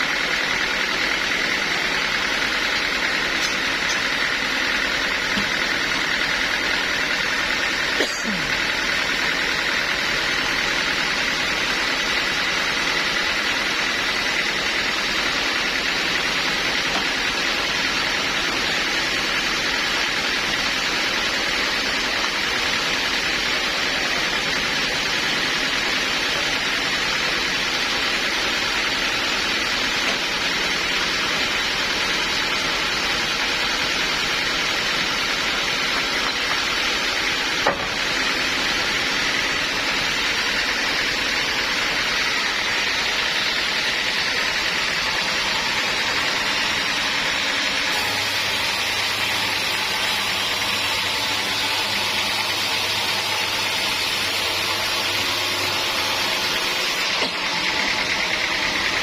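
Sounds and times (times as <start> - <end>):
sawmill saw running: 0.0 - 59.0.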